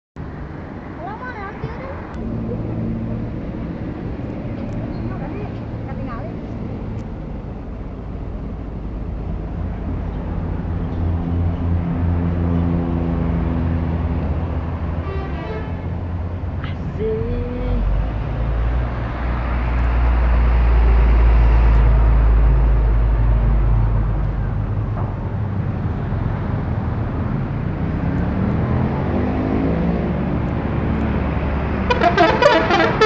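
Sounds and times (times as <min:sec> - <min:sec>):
bus engine rumbling: 0:00.2 - 0:33.0
road traffic noise: 0:00.2 - 0:33.0.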